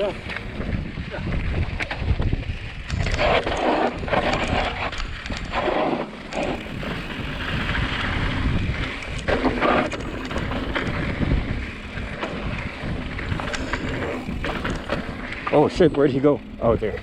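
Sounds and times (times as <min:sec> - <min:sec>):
tyres rolling on dirt trail: 0:00.0 - 0:17.0
wind buffeting microphone: 0:00.0 - 0:17.0.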